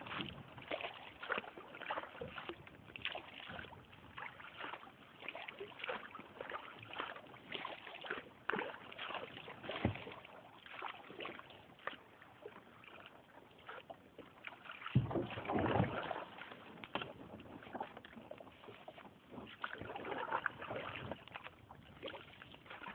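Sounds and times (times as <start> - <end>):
paddle splashing in water: 0.0 - 22.9
water dripping off paddle: 0.0 - 22.9.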